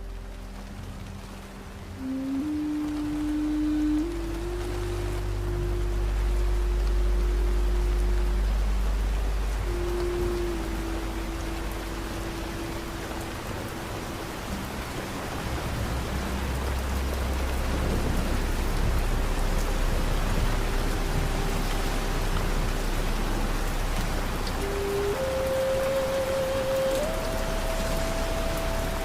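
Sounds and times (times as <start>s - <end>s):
deep low rumble: 0.0s - 29.0s
heavy rain pattering: 0.0s - 29.0s
low ambient music notes: 0.0s - 29.0s.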